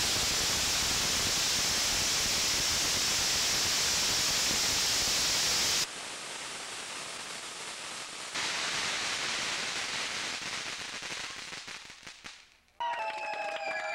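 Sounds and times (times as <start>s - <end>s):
firework fountain hissing: 0.0s - 12.4s
firework crackles: 0.0s - 12.8s.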